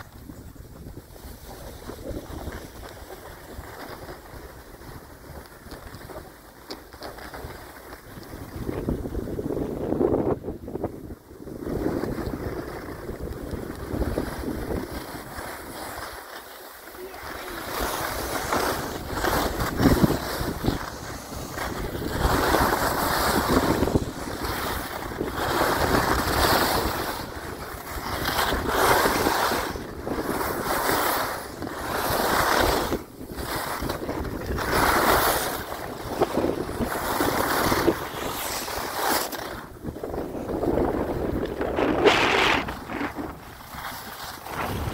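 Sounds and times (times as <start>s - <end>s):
wind on microphone: 0.0s - 6.4s, 7.4s - 16.3s, 17.0s - 44.9s
skis scraping over snow: 0.0s - 44.9s.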